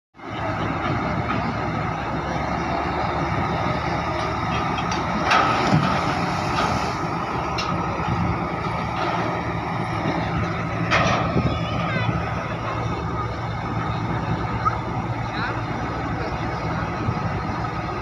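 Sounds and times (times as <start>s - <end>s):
heavy engine running: 0.2s - 18.0s.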